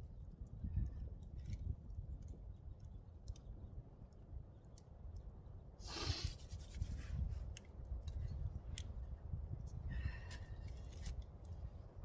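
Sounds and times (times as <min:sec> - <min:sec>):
wind rumble on microphone: 0:00.0 - 0:12.0
wood fire crackling: 0:00.0 - 0:12.0.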